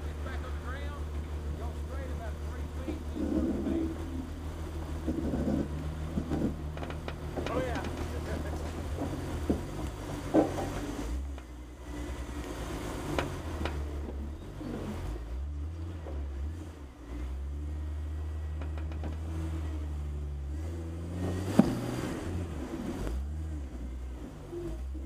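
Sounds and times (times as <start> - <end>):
vehicle engine running low: 0.0 - 25.0.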